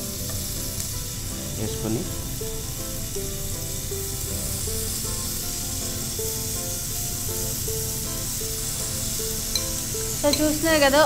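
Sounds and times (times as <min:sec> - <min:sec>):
background music melody: 0:00.0 - 0:11.0
prawns sizzling in pan: 0:00.0 - 0:11.0.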